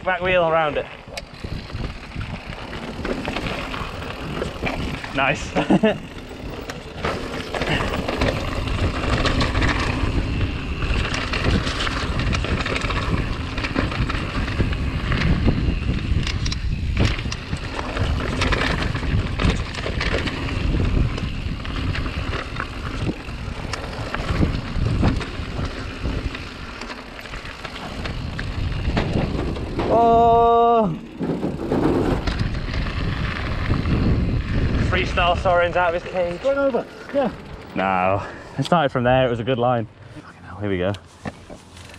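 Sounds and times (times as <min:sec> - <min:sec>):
wind buffeting microphone: 0:00.0 - 0:38.3
bike knocks and rattles: 0:01.2 - 0:36.7
tyres crunching over gravel: 0:01.4 - 0:38.3.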